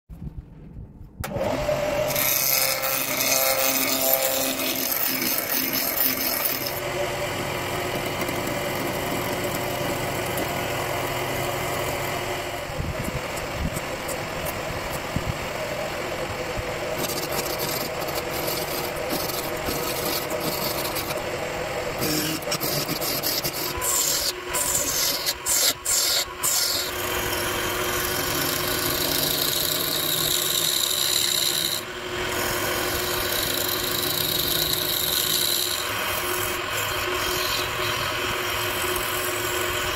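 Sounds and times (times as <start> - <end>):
lathe motor hum: 1.2 - 39.9
chisel scraping spinning wood: 1.4 - 39.9.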